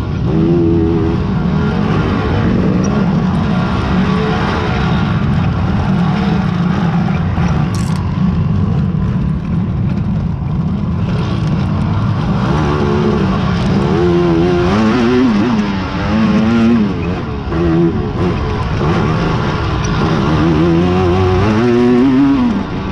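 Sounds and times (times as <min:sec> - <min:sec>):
quad engines revving: 0:00.0 - 0:22.9.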